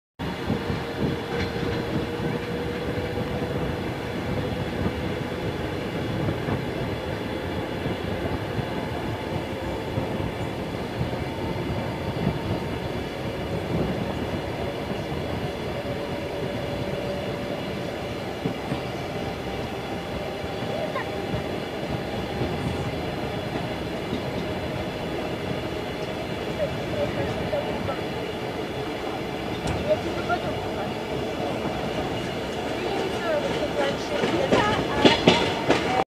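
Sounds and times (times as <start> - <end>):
steel wheels clattering over rails: 0.3 - 36.0.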